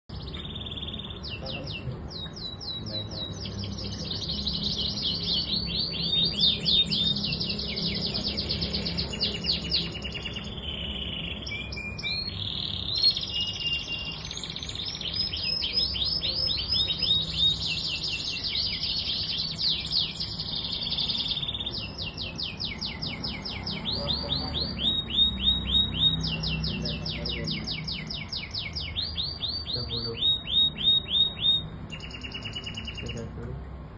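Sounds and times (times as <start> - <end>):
canary singing trills: 0.1 - 33.5.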